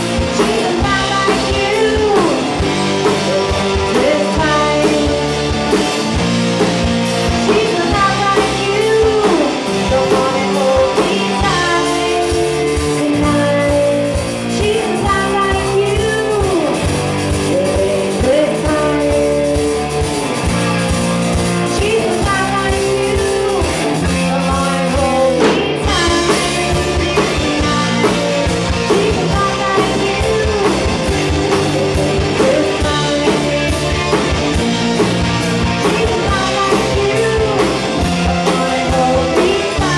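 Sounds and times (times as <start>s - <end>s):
person singing: 0.0s - 6.0s, 7.3s - 39.9s
rock band playing: 0.0s - 39.9s.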